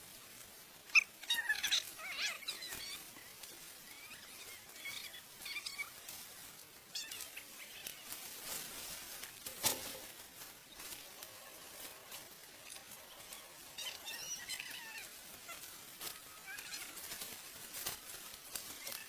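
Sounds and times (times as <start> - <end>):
dry rice stalks rustling and snapping: 0.0 - 19.0.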